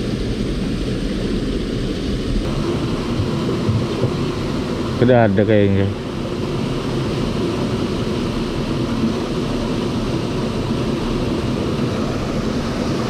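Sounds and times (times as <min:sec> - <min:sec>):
water rushing through sluice gate: 0:02.5 - 0:13.0.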